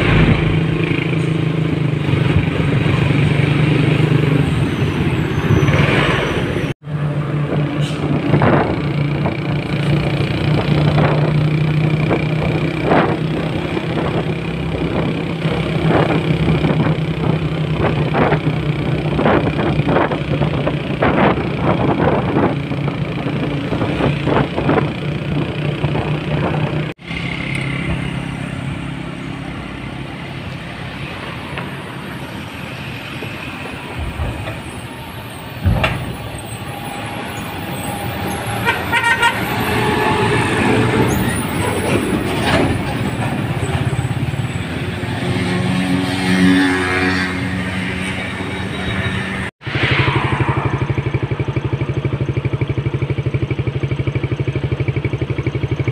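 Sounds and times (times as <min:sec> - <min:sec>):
truck diesel engine running: 0:00.0 - 0:05.7, 0:06.3 - 0:46.0, 0:47.6 - 0:55.9.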